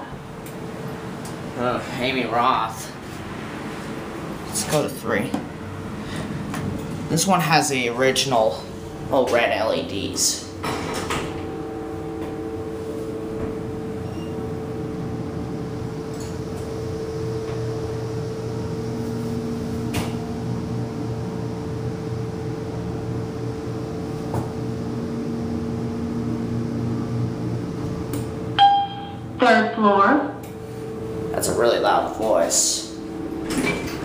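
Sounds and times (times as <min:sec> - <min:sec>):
elevator hum and pump whine: 0:00.0 - 0:34.0.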